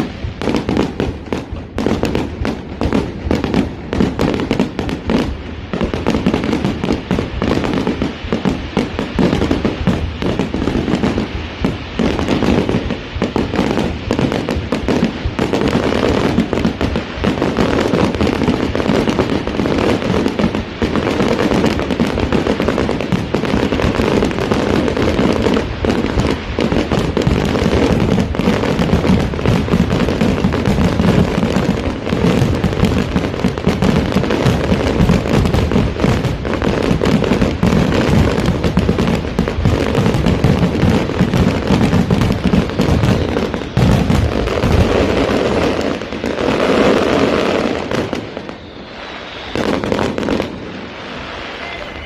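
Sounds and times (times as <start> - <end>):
fireworks bangs and crackles: 0.0 - 52.0.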